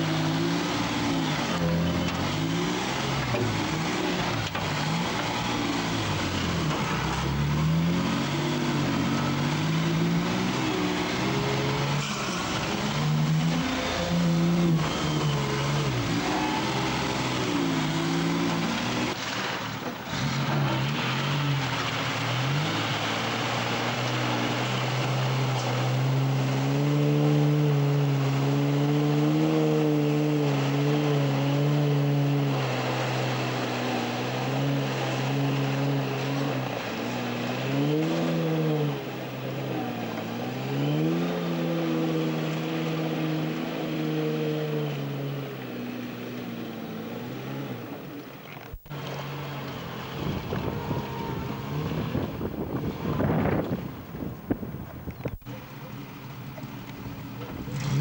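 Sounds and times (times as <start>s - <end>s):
truck engine pulling through mud: 0.0s - 58.0s
water splashing from tyres: 0.0s - 58.0s.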